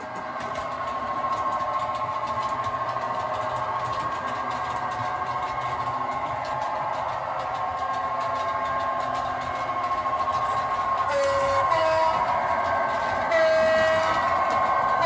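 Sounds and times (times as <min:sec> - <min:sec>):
model locomotive whirring: 0:00.0 - 0:15.0.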